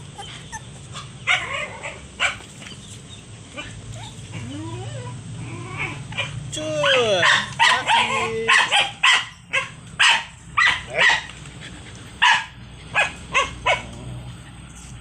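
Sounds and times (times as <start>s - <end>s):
puppy yelping: 0.0s - 15.0s.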